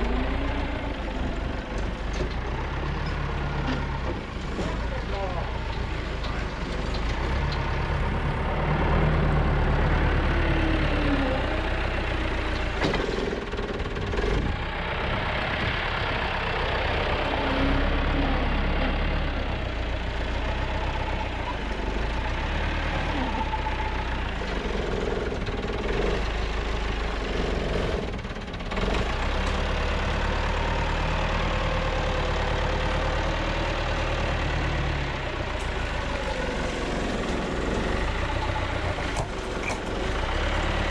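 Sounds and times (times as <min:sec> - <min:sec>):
heavy tractor engine running: 0:00.0 - 0:40.9.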